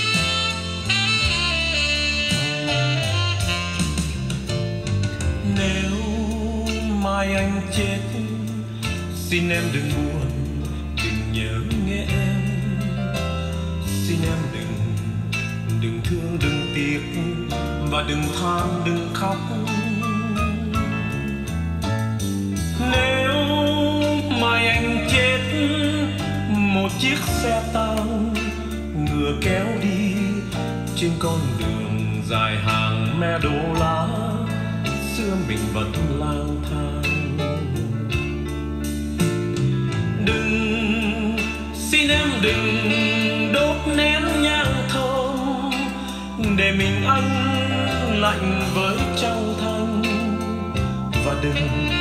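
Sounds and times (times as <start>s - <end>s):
song over loudspeakers: 0.0s - 52.0s
steady bass line: 0.0s - 52.0s.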